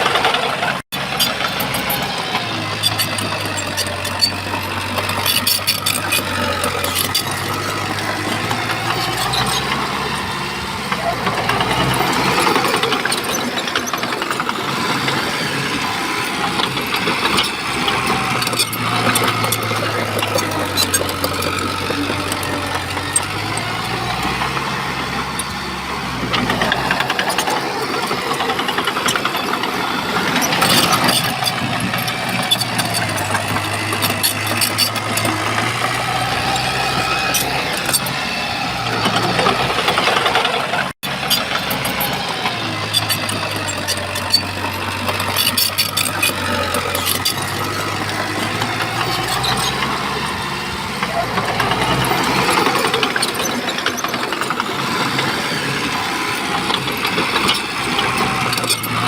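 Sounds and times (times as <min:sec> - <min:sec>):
bulldozer diesel engine running: 0:00.0 - 0:59.0
metal clanks and rattles: 0:00.0 - 0:59.0.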